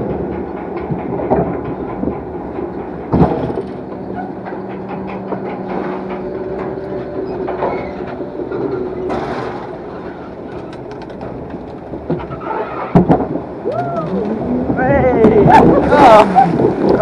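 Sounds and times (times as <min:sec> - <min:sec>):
rattling and clicking: 0:00.0 - 0:14.4
ride machinery humming: 0:00.0 - 0:17.0.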